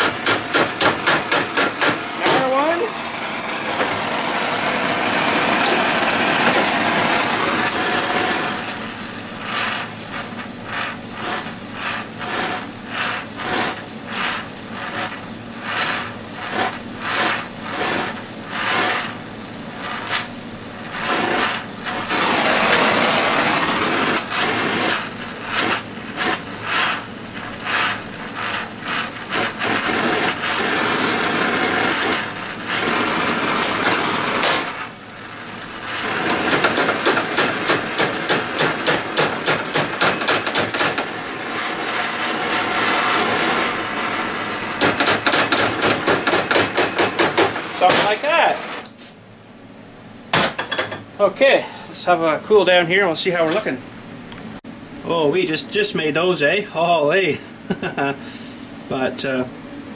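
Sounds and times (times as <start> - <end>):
hammer striking hot steel: 0.0 - 49.0, 50.3 - 51.1
gas torch hissing: 0.0 - 49.2.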